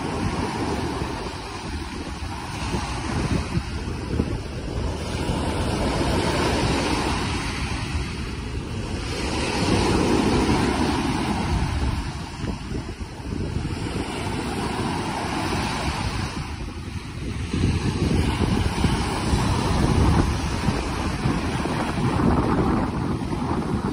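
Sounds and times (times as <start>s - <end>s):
small waves breaking on a beach: 0.0s - 23.9s
wind on microphone: 0.0s - 23.9s.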